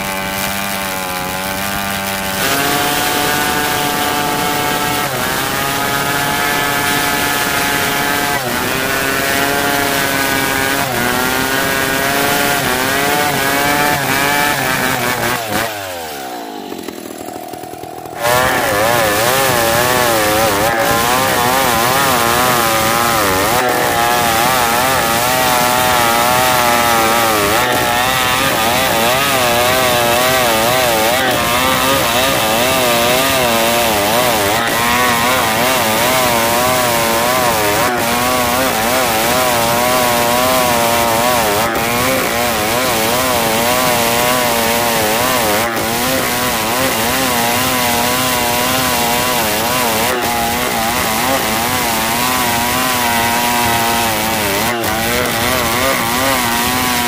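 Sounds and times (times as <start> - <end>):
chainsaw ripping a log: 0.0 - 57.0.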